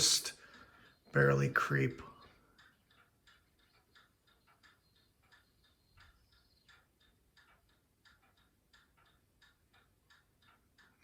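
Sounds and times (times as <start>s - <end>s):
ceiling fan ticking: 0.0s - 11.0s.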